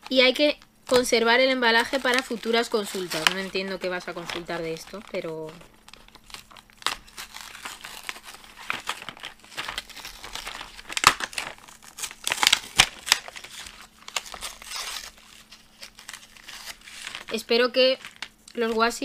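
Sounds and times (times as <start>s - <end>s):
plastic crinkling: 0.0s - 19.0s
cardboard tearing: 1.8s - 17.4s.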